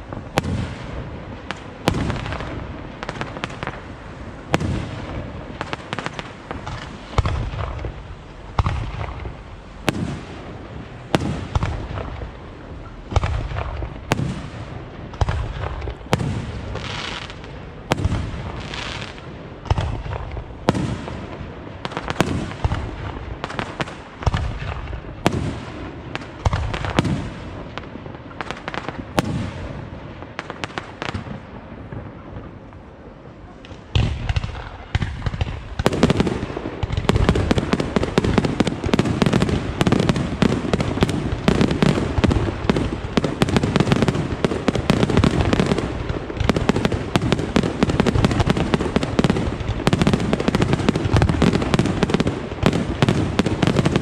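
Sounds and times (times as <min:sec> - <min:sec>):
fireworks bangs and booms: 0:00.0 - 0:54.0
fireworks crackling: 0:00.0 - 0:54.0.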